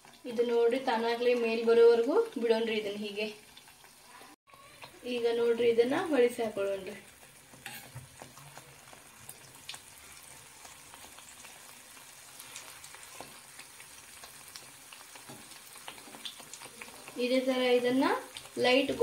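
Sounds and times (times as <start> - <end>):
dough frying in hot oil: 0.0 - 19.0.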